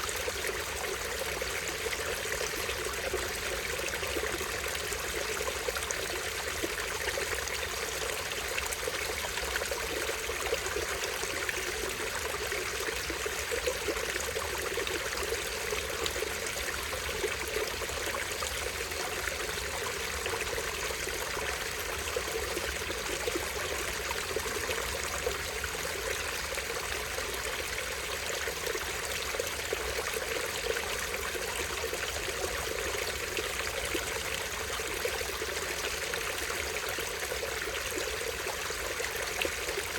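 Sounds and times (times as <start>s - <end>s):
stream trickling over waterfall: 0.0s - 39.9s.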